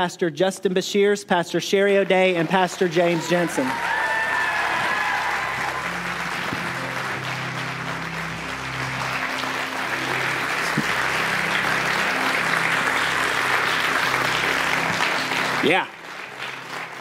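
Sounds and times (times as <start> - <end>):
congregation applauding: 1.9 - 17.0
soft instrumental music: 2.2 - 17.0.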